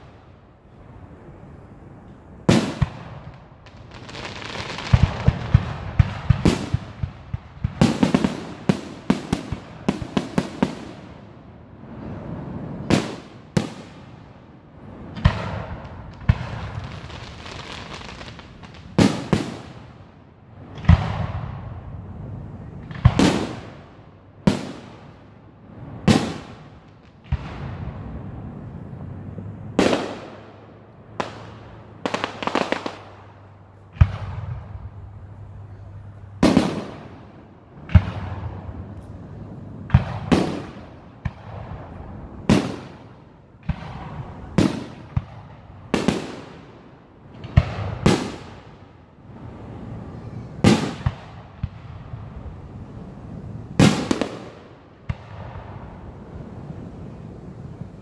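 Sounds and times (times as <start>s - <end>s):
fireworks bursting: 2.4s - 11.3s, 11.9s - 21.9s, 22.6s - 35.8s, 36.4s - 58.0s.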